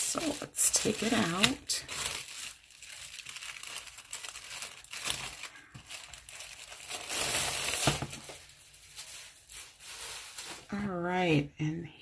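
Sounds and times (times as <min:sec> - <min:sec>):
plastic wrap crinkling: 0:00.0 - 0:11.1.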